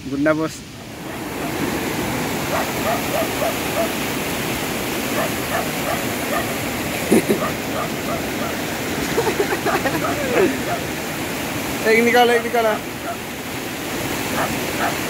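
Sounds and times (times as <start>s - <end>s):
river rushing over rapids: 0.2s - 15.0s.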